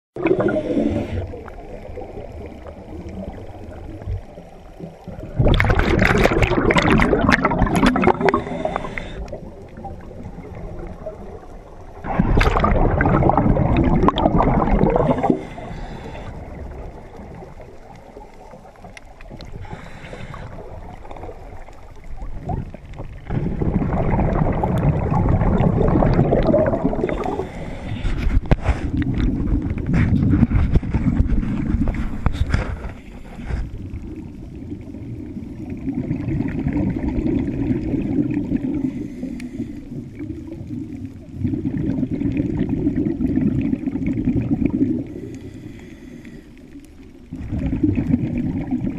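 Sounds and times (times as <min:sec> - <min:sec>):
exhaled bubbles underwater: 0:00.2 - 0:32.5, 0:33.7 - 0:48.9.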